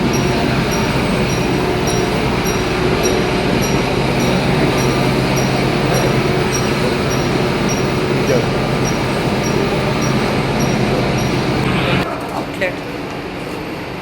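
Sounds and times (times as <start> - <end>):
faint high ticking: 0.0 - 11.7
machinery humming and rattling: 0.0 - 14.0.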